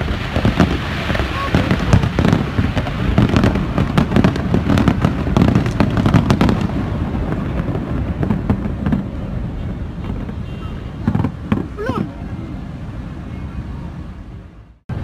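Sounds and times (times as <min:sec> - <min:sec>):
fireworks bursting: 0:00.0 - 0:12.9.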